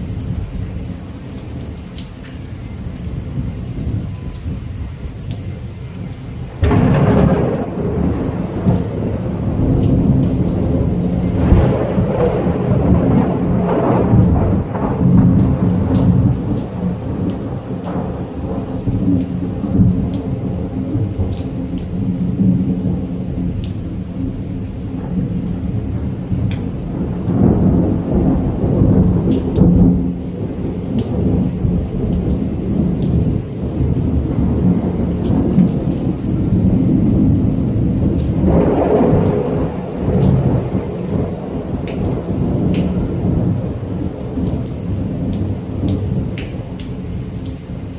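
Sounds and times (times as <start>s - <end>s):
steady rain: 0.0s - 47.9s
rolling thunder: 6.6s - 46.7s.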